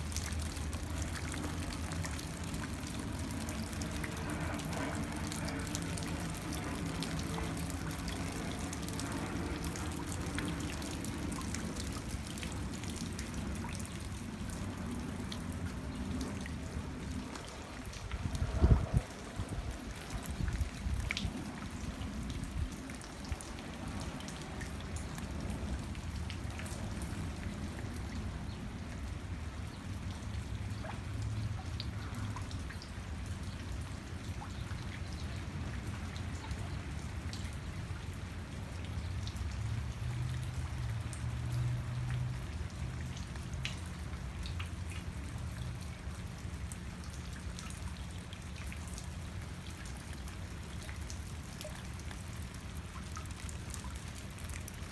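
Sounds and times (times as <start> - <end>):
raindrops ticking: 0.0 - 18.4, 19.4 - 54.9
steady rain hissing: 0.0 - 54.9.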